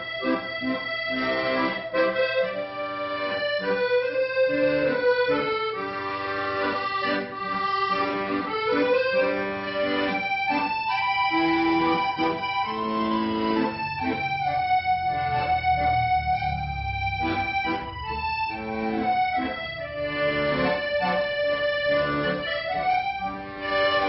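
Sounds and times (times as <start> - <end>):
accordion melody: 0.0 - 24.0
bass and chord accompaniment: 0.0 - 24.0.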